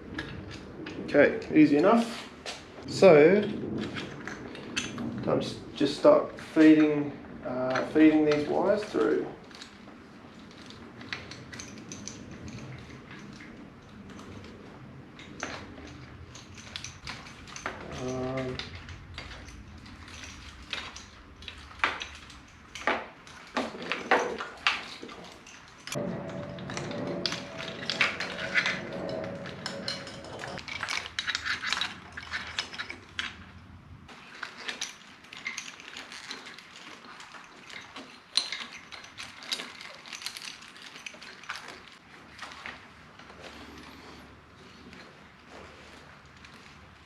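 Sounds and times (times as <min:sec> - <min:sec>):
hands handling wiring clicks and rustles: 0:00.0 - 0:47.0
metal tools clinking: 0:07.7 - 0:47.0.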